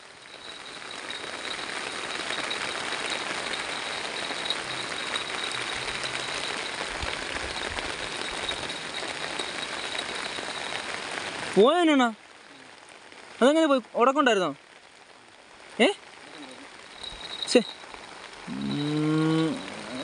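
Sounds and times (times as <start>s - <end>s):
heavy rain falling on river: 0.0s - 20.0s.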